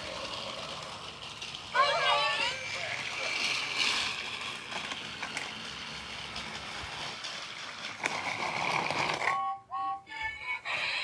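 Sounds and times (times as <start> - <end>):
toy train motors whirring: 0.0 - 11.0.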